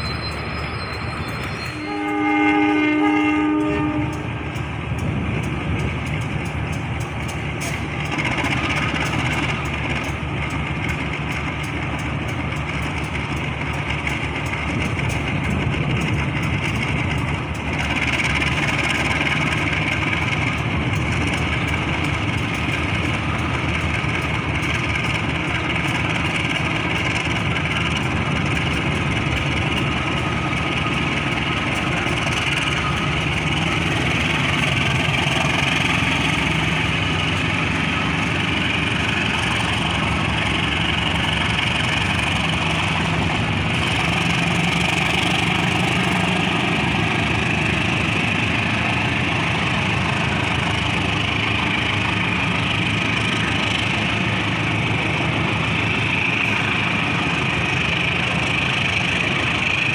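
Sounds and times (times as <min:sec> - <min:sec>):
diesel locomotive engine running: 0:00.0 - 0:59.9
train wheels on track: 0:00.0 - 0:59.9.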